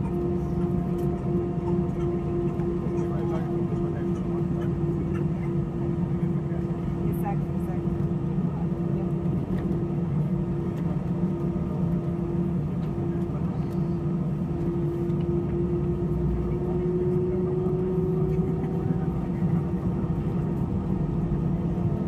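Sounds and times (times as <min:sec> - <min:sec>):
jet engine rumble: 0:00.0 - 0:22.0
jet engine whine: 0:00.0 - 0:22.0.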